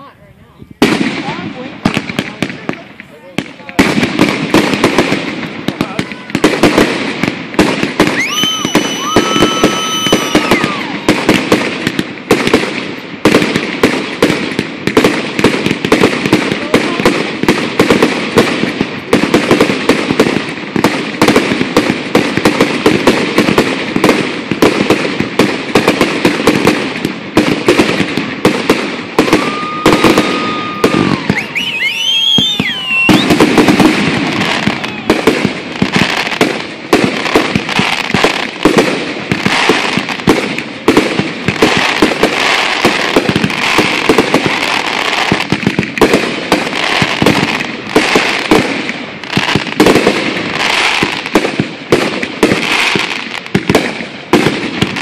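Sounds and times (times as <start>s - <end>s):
fireworks bangs and crackling: 0.0s - 55.0s
fireworks whistling: 0.0s - 55.0s.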